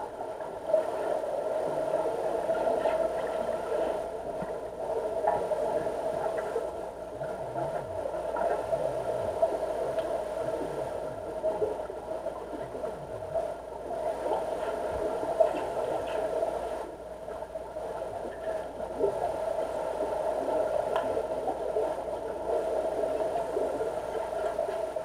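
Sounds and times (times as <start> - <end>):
underwater hum: 0.0 - 25.0.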